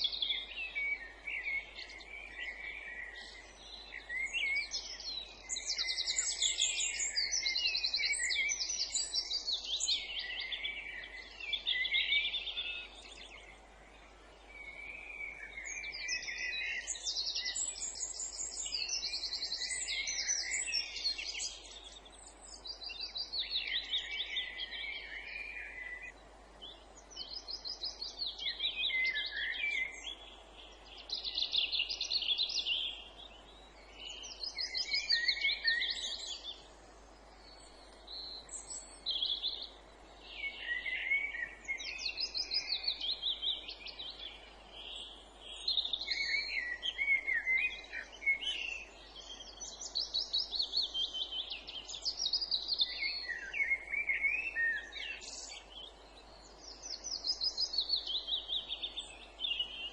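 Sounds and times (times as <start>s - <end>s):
songbirds singing trilled notes: 0.0s - 59.9s.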